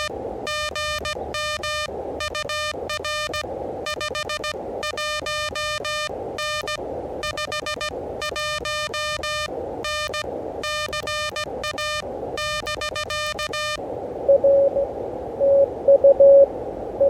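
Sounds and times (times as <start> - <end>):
morse code beeps: 0.0 - 14.8, 15.4 - 16.5
radio band noise hiss: 0.0 - 17.0.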